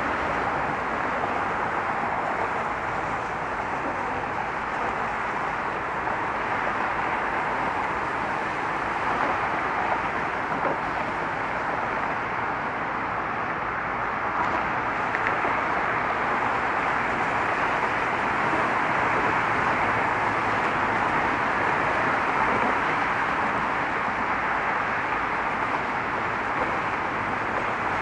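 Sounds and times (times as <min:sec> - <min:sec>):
road traffic hiss: 0:00.0 - 0:28.0.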